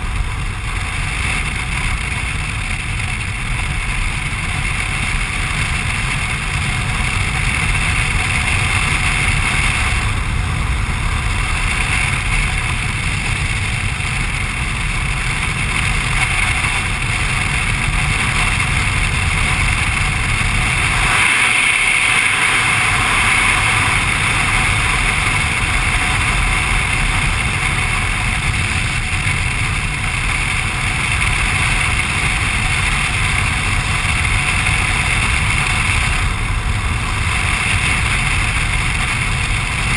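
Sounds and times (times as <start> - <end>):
motorcycle engine cruising: 0.0 - 39.9
wind rush and road noise: 0.0 - 39.9.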